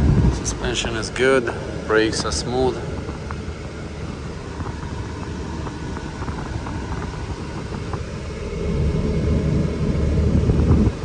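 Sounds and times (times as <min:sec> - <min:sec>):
diesel truck engine rumble: 0:00.0 - 0:11.0
road noise: 0:00.0 - 0:11.0.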